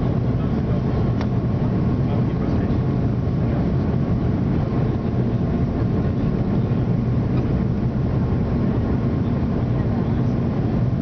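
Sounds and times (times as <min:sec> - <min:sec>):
jet engine drone: 0:00.0 - 0:11.0.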